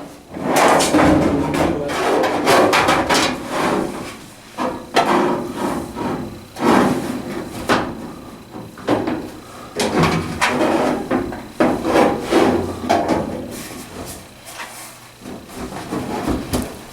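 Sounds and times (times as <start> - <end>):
metal dryer drum clunking and scraping: 0.0 - 14.2.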